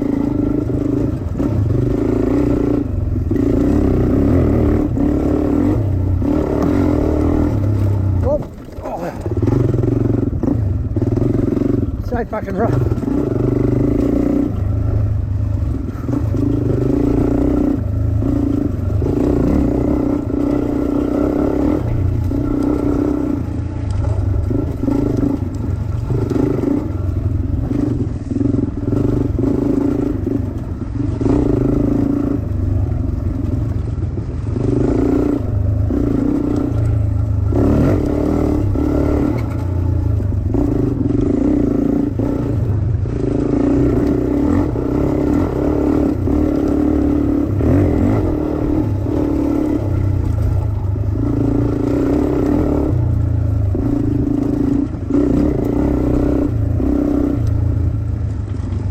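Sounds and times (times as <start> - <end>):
dirt bike engine revving: 0.0 - 58.7.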